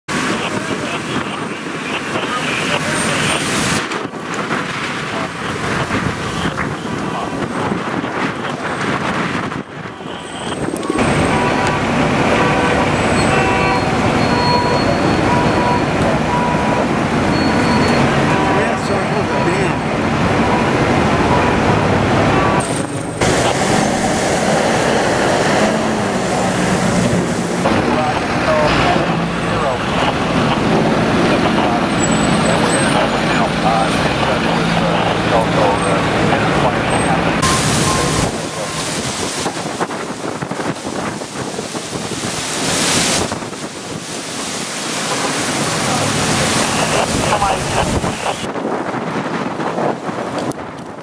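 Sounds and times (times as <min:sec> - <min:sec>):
fire engines running: 0:00.1 - 0:51.0
wind rumbling on microphone: 0:00.1 - 0:51.0.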